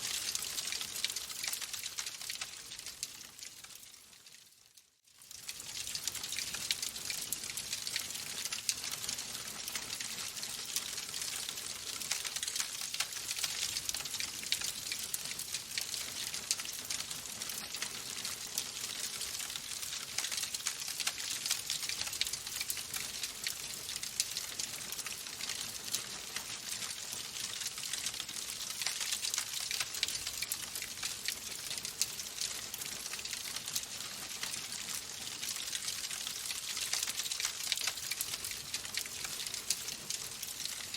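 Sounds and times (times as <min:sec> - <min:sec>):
fire crackling in fireplace: 0:00.0 - 0:40.9.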